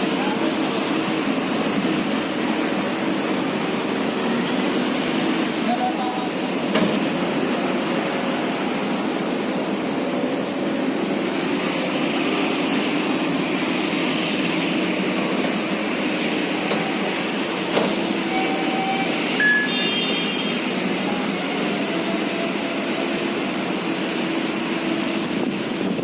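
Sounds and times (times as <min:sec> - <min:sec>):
heavy machinery engine running: 0:00.0 - 0:26.0.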